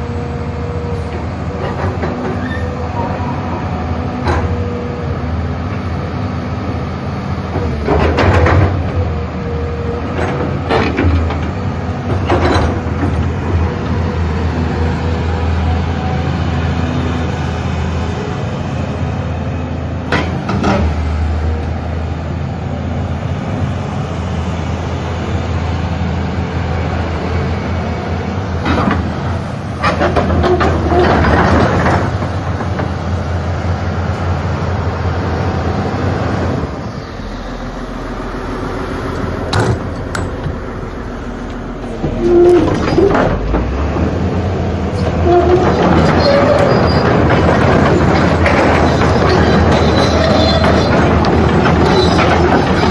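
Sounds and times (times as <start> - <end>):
excavator diesel engine humming: 0.0 - 52.9
clanks from steel tracks: 0.8 - 6.3, 7.3 - 19.2, 20.0 - 21.8, 26.5 - 52.9.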